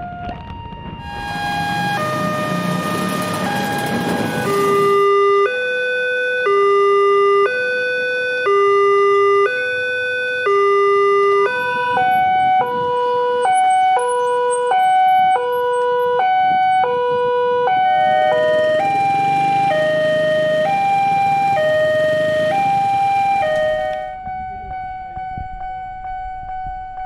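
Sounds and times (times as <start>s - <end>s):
higher-pitched crossing alarm: 0.0s - 27.0s
level crossing two-tone alarm: 0.0s - 27.0s.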